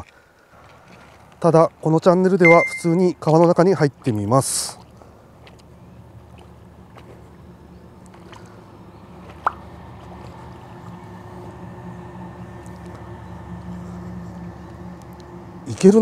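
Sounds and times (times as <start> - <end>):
river water gurgling around boots: 0.0 - 16.0.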